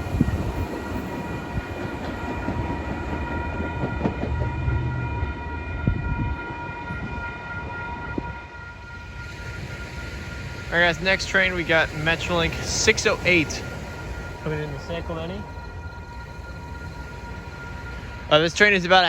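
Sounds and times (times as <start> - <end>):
steady high tones: 0.0 - 19.0
train rumbling past: 0.0 - 19.0.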